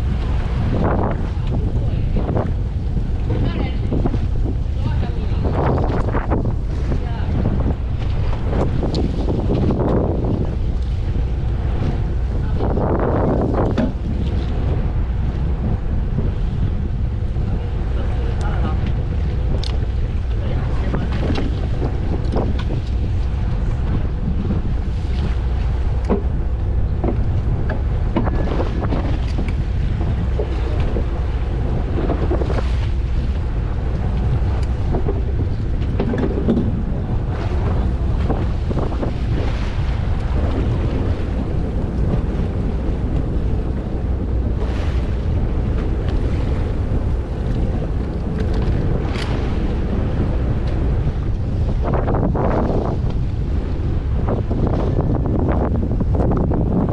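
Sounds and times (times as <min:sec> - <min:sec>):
low rumble: 0:00.0 - 0:56.9
wind buffeting microphone: 0:00.0 - 0:56.9.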